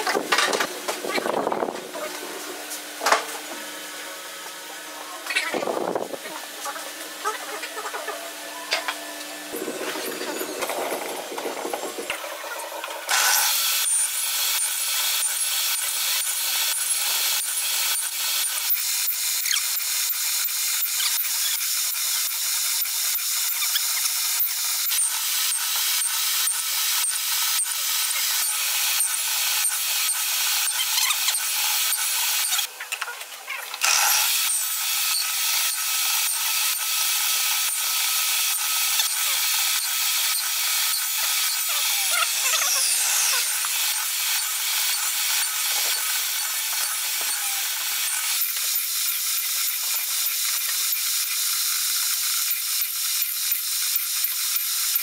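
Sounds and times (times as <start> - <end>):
table saw cutting wood: 0.0 - 55.0.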